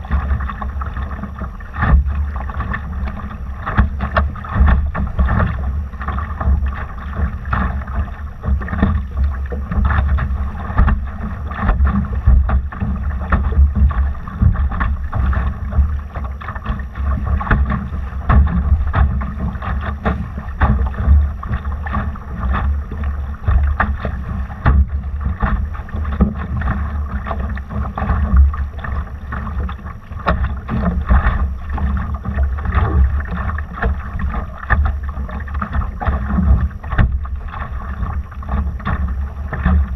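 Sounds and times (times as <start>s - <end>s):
water slapping against hull: 0.0s - 39.9s.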